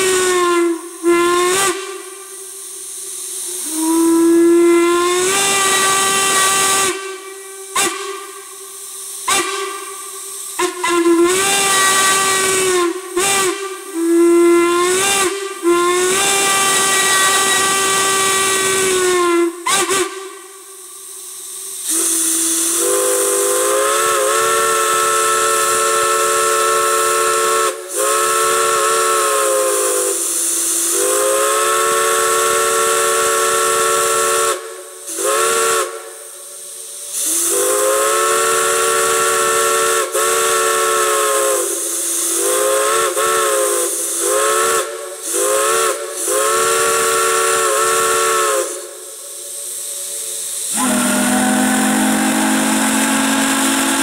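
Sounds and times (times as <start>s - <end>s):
chime steam whistle blasts: 0.0s - 54.0s
steam hissing: 0.0s - 54.0s.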